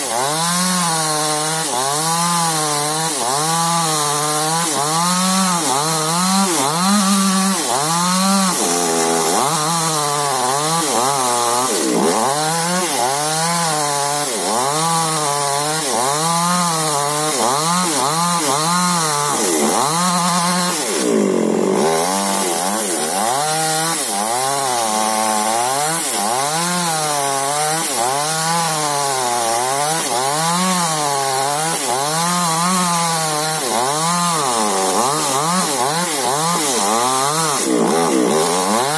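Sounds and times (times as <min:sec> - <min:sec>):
chainsaw engine running hard: 0:00.0 - 0:38.9.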